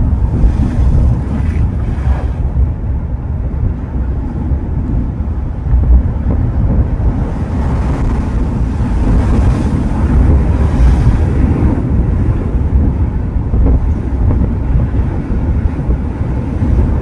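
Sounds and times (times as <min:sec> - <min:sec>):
ocean surf breaking on shore: 0:00.0 - 0:17.0
wind rumbling on microphone: 0:00.0 - 0:17.0.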